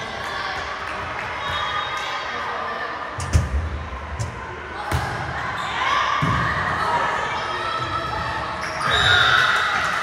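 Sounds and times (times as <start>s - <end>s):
mixed voices in a hall: 0.0s - 8.8s.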